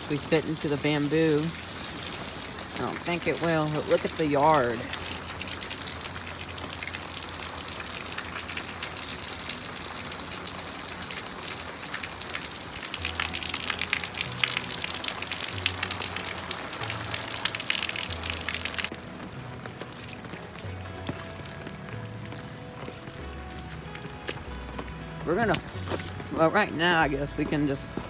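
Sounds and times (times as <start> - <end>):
heavy rain on an umbrella: 0.0 - 27.1
rushing runoff water: 0.0 - 28.0.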